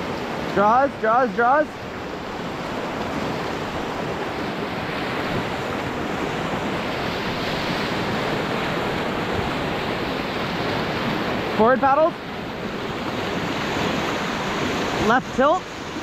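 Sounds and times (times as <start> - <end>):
whitewater rapids rushing: 0.0 - 16.0.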